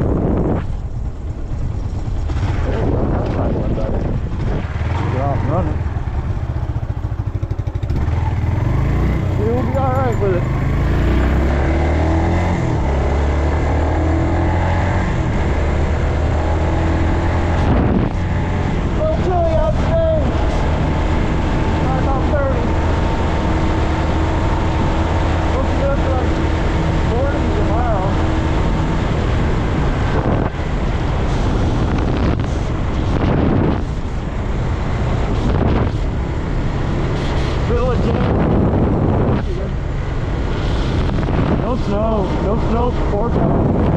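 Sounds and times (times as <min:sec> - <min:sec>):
motorcycle engine running: 0:00.0 - 0:43.9
wind buffeting microphone: 0:00.0 - 0:43.9.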